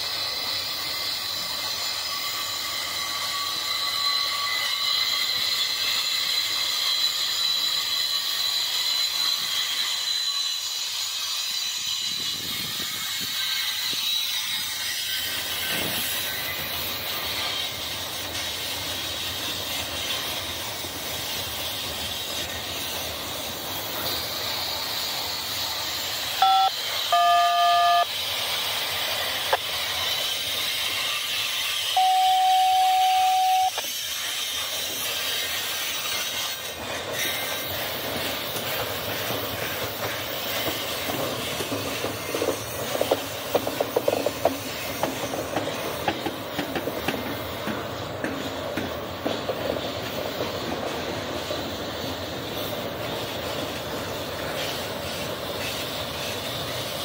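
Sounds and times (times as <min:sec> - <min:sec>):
train wheels rumbling and hissing: 0:00.0 - 0:57.0.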